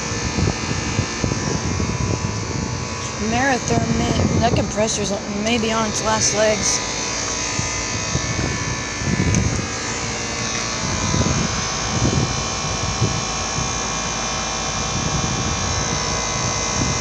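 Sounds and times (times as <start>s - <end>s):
heat pump buzzing hum: 0.0s - 17.0s
low rumbles: 0.0s - 17.0s.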